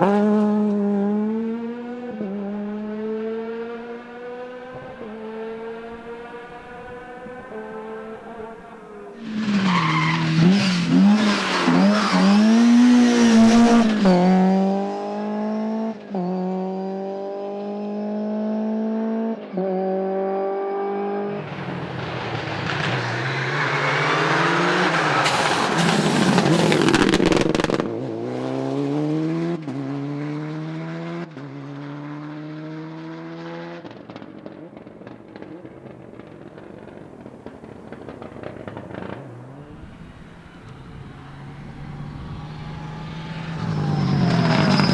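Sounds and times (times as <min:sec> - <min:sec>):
car engine accelerating through upshifts: 0:00.0 - 0:44.9
rally cars passing at speed: 0:00.0 - 0:44.9.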